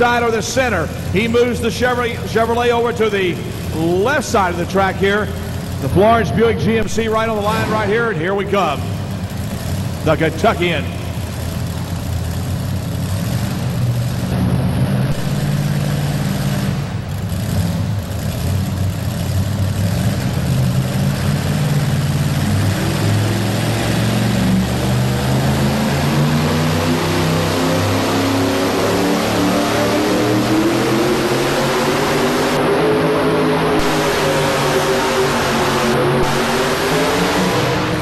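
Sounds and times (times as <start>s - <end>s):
supercharged truck engine revving: 0.0s - 38.0s.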